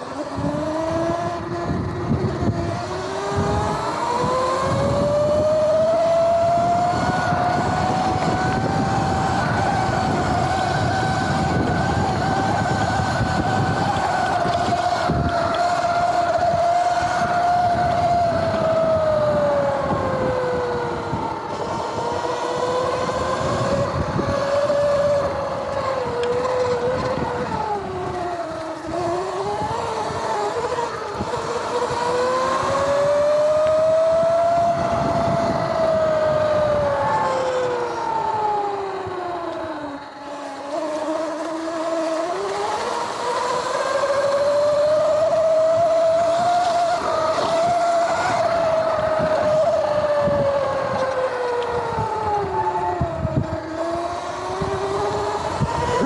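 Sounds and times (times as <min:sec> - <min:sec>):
electric motor and chain whine: 0:00.0 - 0:56.0
wind noise: 0:00.0 - 0:56.0.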